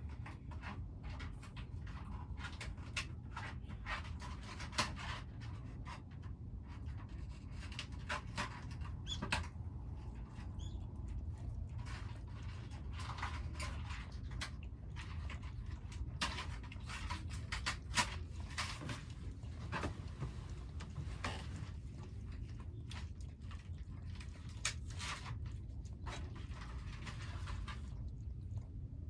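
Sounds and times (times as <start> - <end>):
kittens chewing food: 0.0 - 29.0
low background rumble: 0.0 - 29.0.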